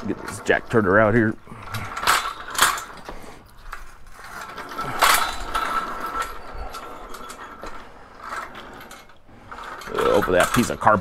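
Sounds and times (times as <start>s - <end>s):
lift jack rattling and clicking: 0.0s - 11.0s
metal clank: 0.0s - 11.0s.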